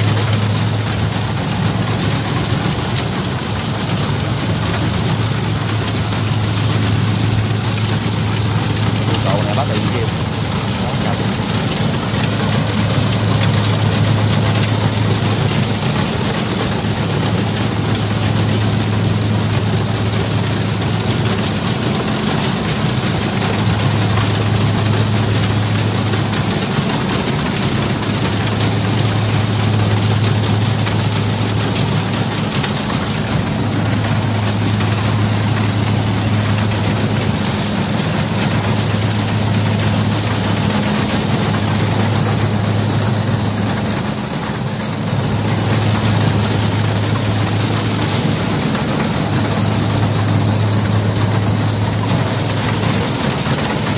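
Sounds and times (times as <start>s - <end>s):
diesel engine low hum: 0.0s - 53.9s
machinery rattling and whirring: 0.0s - 53.9s.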